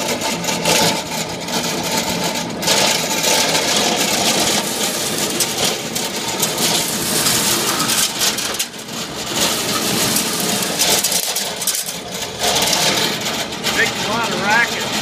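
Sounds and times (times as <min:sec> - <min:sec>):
corn sheller motor running: 0:00.0 - 0:15.0
dense rattle of corn shelling: 0:00.0 - 0:15.0.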